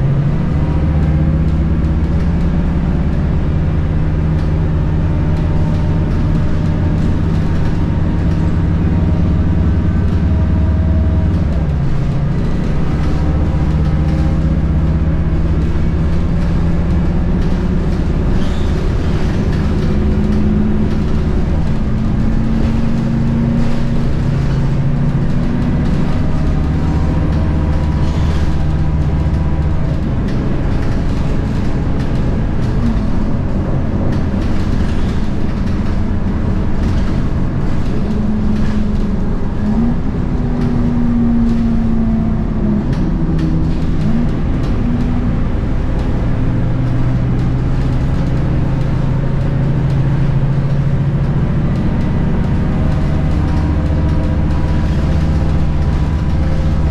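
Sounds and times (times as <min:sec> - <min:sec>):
bus diesel engine: 0:00.0 - 0:56.9.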